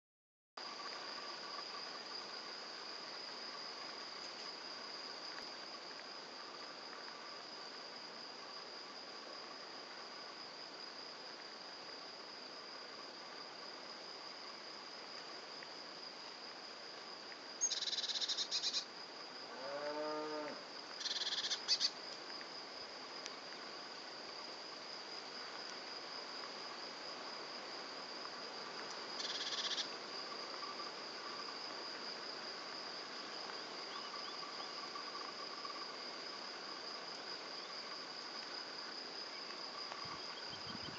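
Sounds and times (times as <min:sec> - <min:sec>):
close insect trill: 0:00.6 - 0:40.9
insect chorus trilling: 0:00.6 - 0:40.9.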